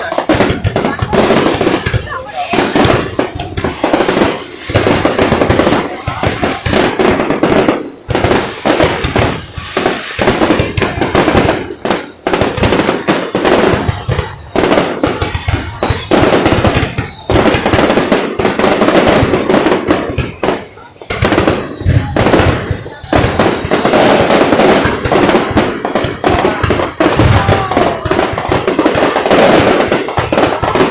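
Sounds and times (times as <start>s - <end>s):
faint firework whistle: 0.0s - 30.9s
fireworks bangs and crackling: 0.0s - 30.9s.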